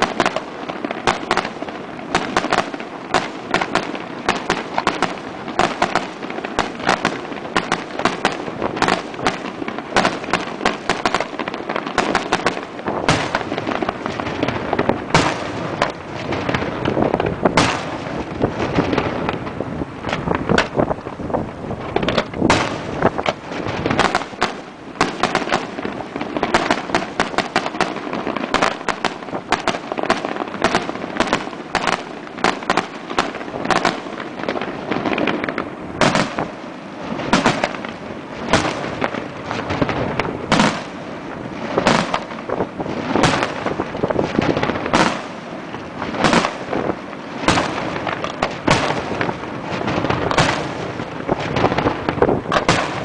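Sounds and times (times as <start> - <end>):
fireworks bangs: 0.0 - 53.0.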